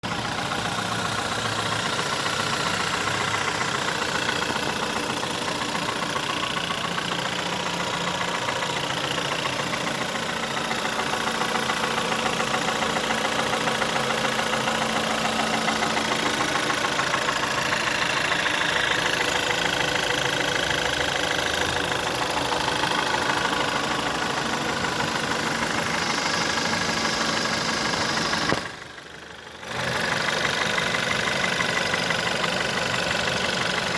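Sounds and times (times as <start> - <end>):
car engine idling: 0.0 - 33.9
rapid engine knocking and clicking: 0.0 - 33.9.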